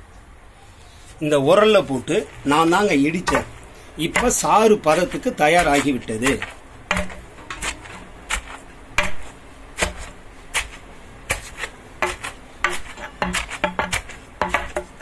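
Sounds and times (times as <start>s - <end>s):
pestle pounding in stone mortar: 2.2s - 15.0s.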